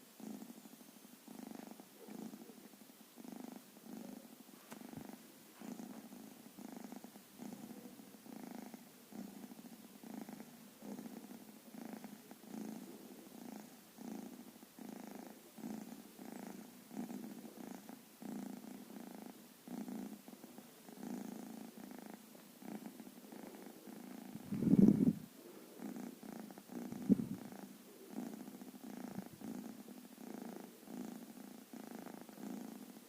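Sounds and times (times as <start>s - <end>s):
kitten snoring softly: 0.2s - 33.0s.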